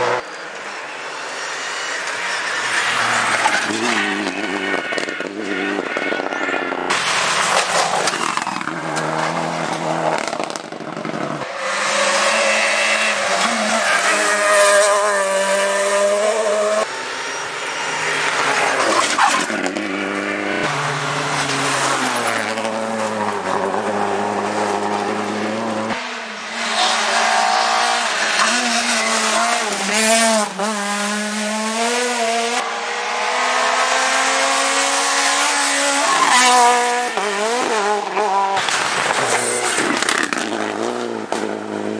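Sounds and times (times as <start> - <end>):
rally cars revving at full throttle: 0.0 - 41.9.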